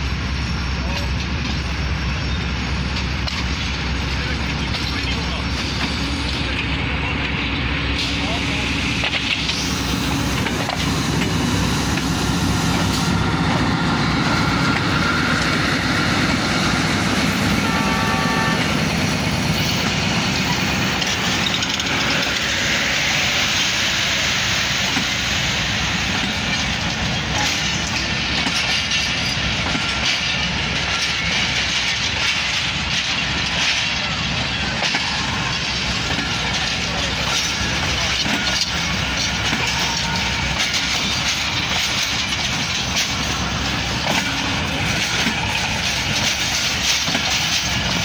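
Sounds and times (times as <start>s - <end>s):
diesel locomotive passing: 0.0s - 48.0s
wheels clattering over rail joints: 0.8s - 48.0s.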